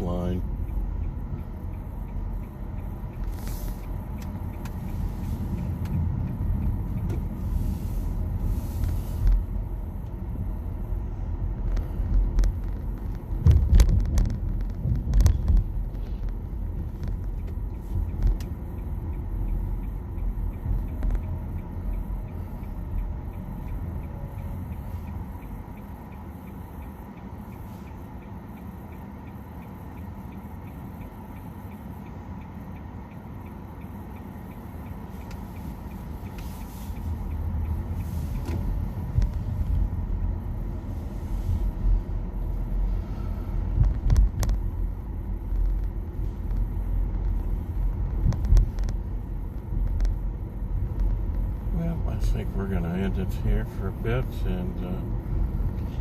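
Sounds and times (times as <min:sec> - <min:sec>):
road and tyre noise: 0:00.0 - 0:56.0.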